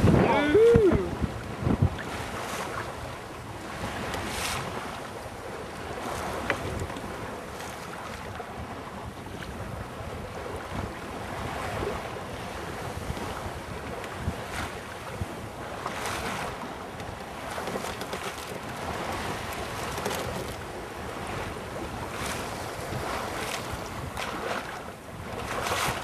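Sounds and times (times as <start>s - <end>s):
wind buffeting microphone: 0.0s - 7.5s, 8.3s - 17.8s, 18.6s - 26.0s
water washing along hull: 0.0s - 26.0s.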